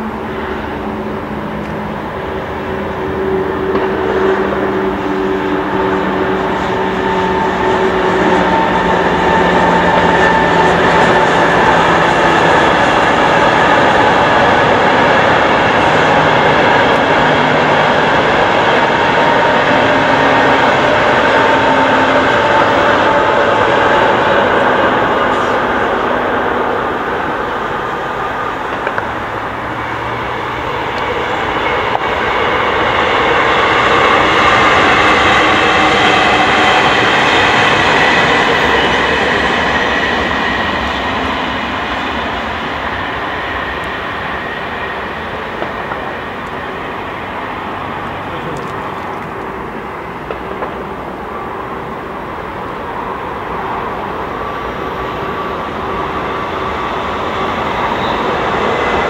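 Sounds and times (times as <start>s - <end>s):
trains passing at speed: 0.0s - 59.0s.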